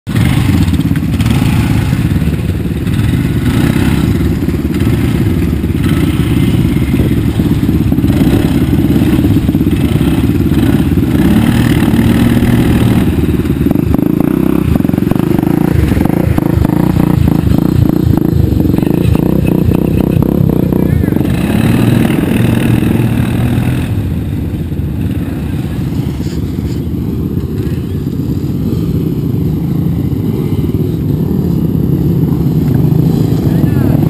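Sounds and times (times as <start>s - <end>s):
quad engines rumbling: 0.1s - 34.0s
vehicles moving through muddy water: 0.1s - 34.0s.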